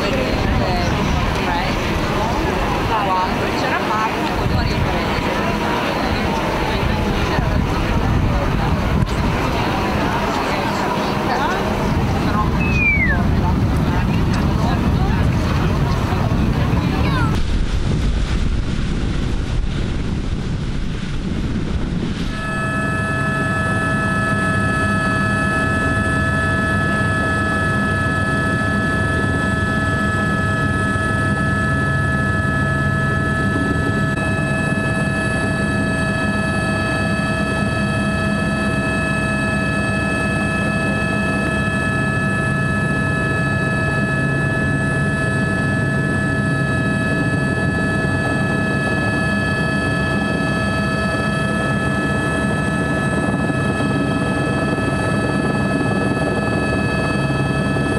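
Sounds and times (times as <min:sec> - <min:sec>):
helicopter engine and rotor rumble: 0:00.0 - 0:17.9, 0:19.2 - 0:57.9
helicopter turbine whine: 0:00.0 - 0:57.9.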